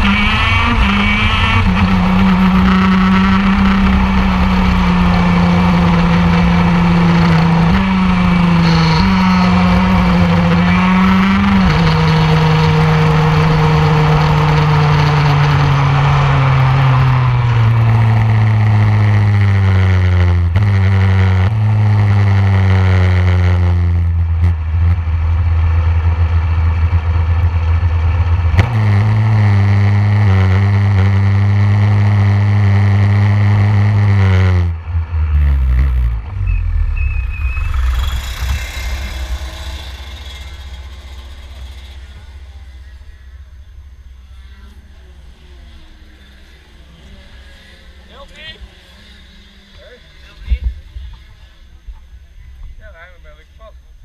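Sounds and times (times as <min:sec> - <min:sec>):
kart engine running: 0:00.0 - 0:54.0.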